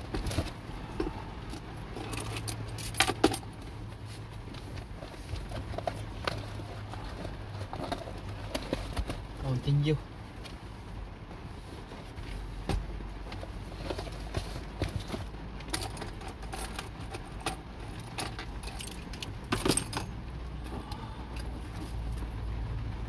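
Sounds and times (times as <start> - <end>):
low vehicle hum: 0.0 - 23.0.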